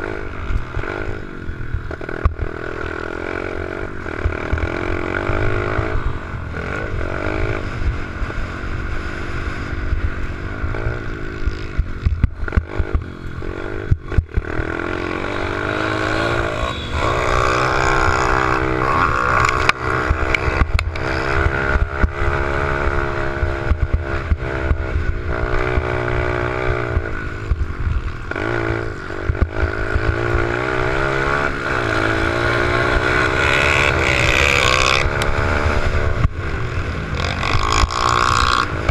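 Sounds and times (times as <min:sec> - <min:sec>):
pit bike engine revving: 0:00.0 - 0:38.9
wind rumbling on microphone: 0:00.0 - 0:38.9.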